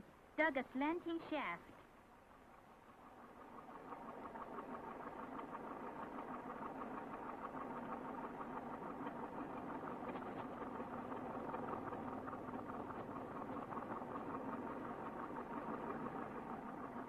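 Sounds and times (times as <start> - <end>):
engine running with rapid beat: 2.3 - 17.0.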